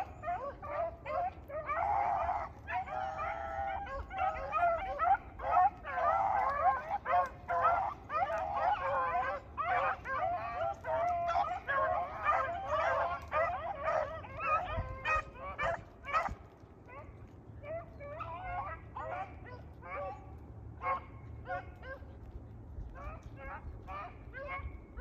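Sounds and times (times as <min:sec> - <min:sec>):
hounds baying in chorus: 0:00.0 - 0:25.0.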